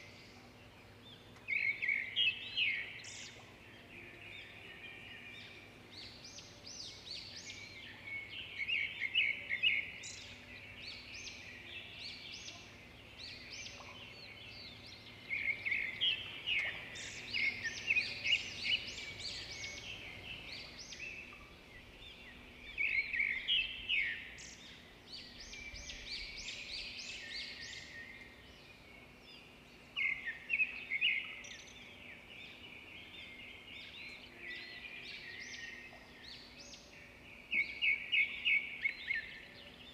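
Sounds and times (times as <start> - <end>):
faint steady background noise: 0.0 - 39.9
small birds chirping: 0.0 - 39.9.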